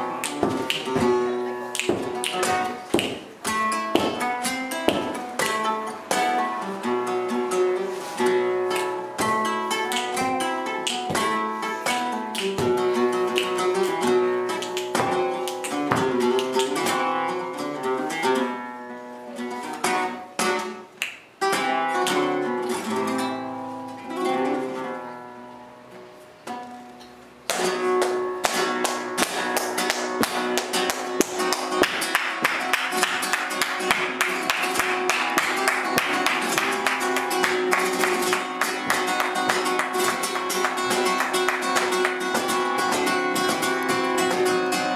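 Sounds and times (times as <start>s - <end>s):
flamenco guitar playing: 0.0s - 44.9s.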